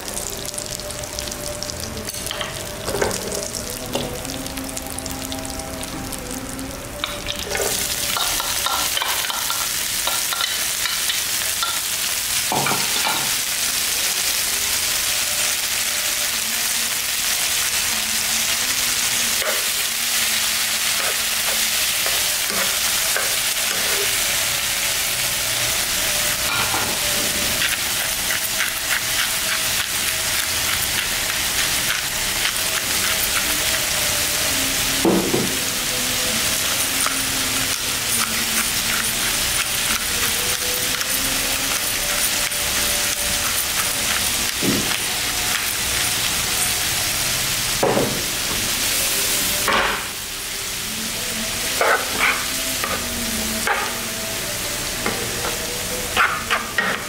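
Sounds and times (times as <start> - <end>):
bean sprouts sizzling in oil: 0.0 - 57.0.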